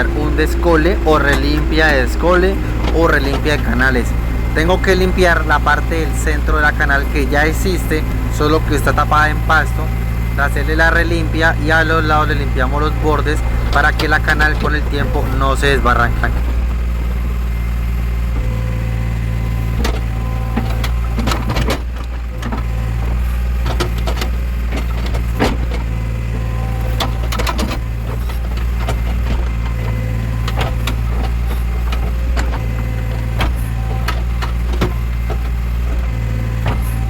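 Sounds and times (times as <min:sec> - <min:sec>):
diesel engine running under load: 0:00.0 - 0:37.0
digging gear knocking and clattering: 0:00.0 - 0:37.0.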